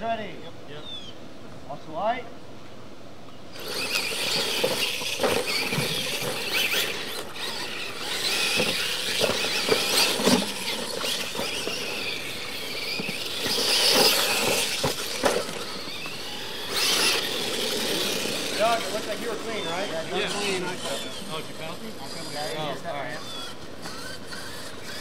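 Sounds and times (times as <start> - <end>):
rc truck motors whining: 3.5 - 25.0.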